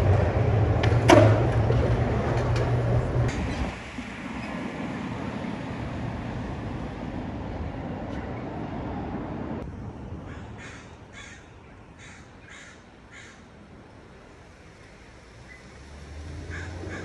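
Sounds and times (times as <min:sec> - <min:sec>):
city street background noise: 0:00.0 - 0:17.0
heavy traffic rumble: 0:00.0 - 0:17.0.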